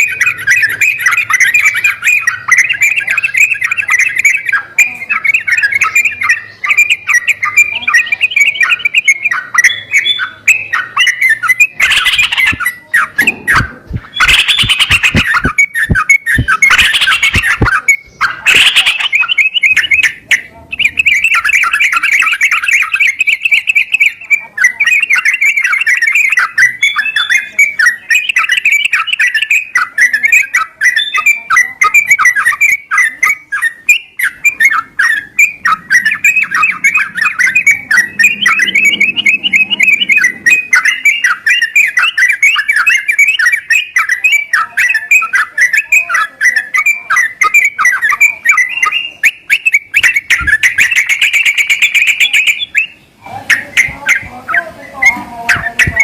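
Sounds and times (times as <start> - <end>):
bulbul bubbly chatter song: 0.0 - 56.0
harsh bird calls: 0.0 - 56.0.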